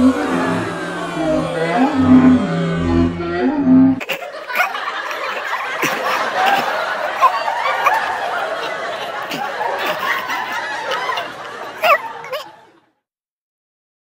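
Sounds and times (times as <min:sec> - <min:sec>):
audience laughing: 0:00.0 - 0:02.9, 0:04.0 - 0:12.9.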